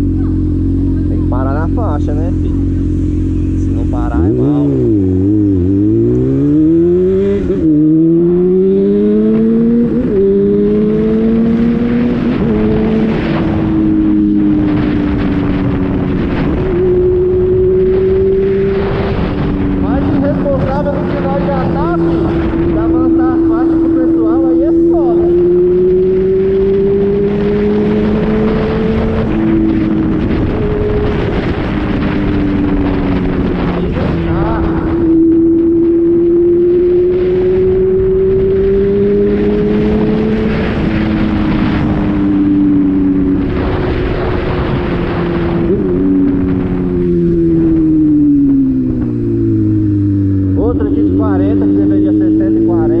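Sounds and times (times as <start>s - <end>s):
motorcycle engine accelerating: 0.0s - 53.0s
wind rushing over microphone: 0.0s - 53.0s.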